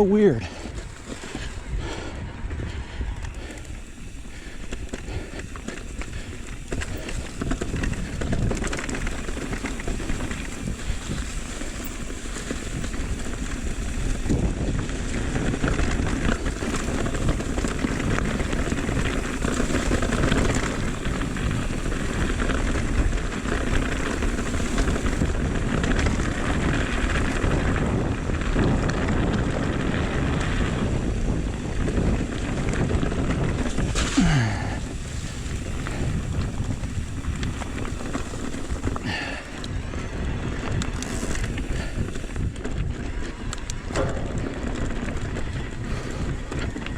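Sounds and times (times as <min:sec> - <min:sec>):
bike rattling: 0:00.0 - 0:46.9
tyres rumbling over dirt: 0:00.0 - 0:46.9
wind buffeting microphone: 0:00.0 - 0:46.9.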